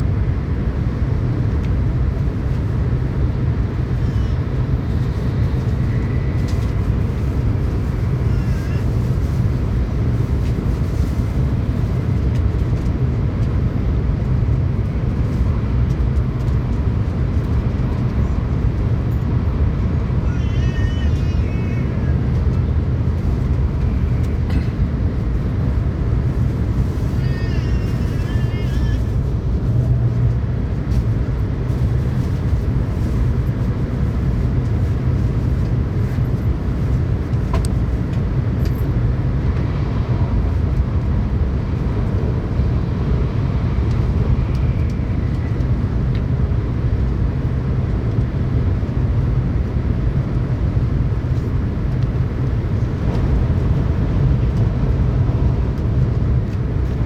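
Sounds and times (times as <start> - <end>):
train cabin rumble at speed: 0.0 - 57.0.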